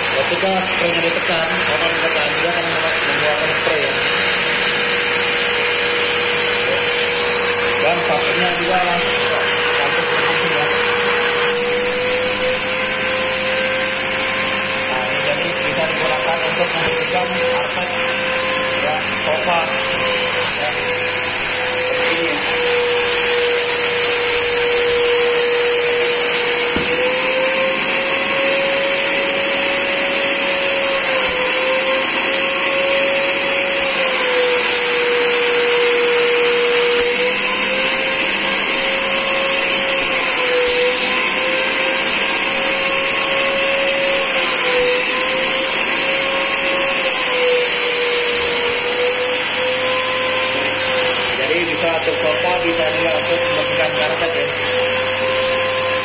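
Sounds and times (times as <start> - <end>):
vacuum motor whine: 0.0 - 56.0.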